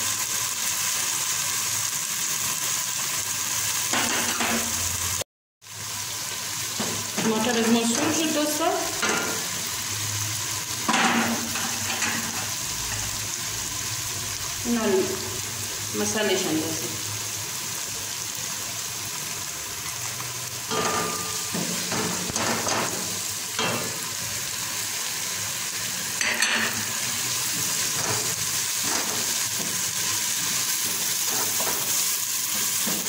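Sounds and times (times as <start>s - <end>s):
sauce sizzling in pot: 0.0s - 33.0s.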